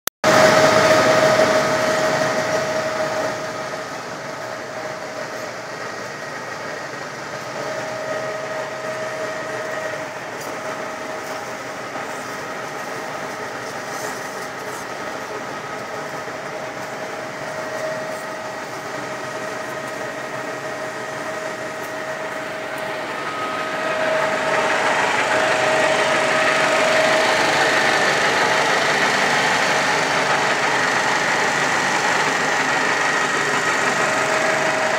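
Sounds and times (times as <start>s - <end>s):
lathe hum and whine: 0.3s - 34.9s.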